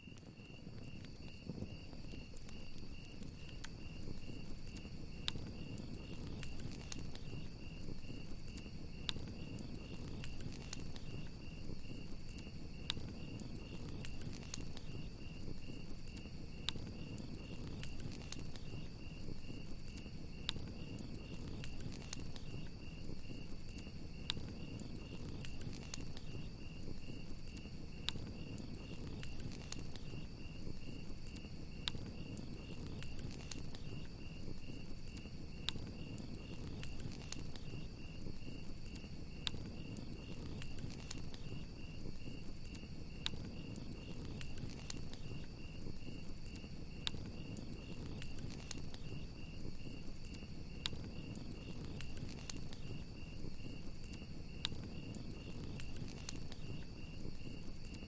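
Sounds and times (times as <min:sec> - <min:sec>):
campfire crackling and popping: 0:00.0 - 0:58.0
crickets chirping: 0:00.0 - 0:58.0
low rumble of flames: 0:00.0 - 0:58.0.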